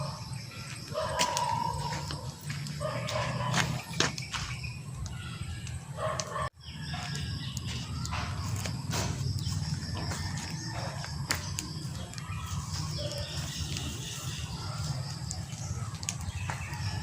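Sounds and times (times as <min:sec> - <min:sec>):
chickens calling: 0:00.0 - 0:17.0
small birds calling: 0:00.0 - 0:17.0.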